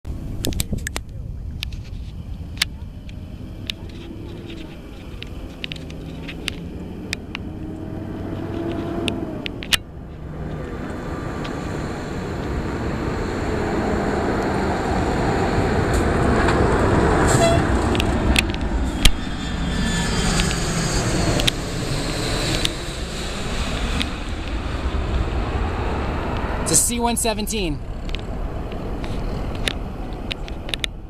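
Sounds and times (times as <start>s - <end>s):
high jet engine whine: 0.1s - 31.0s
jet engines roaring overhead: 0.1s - 31.0s.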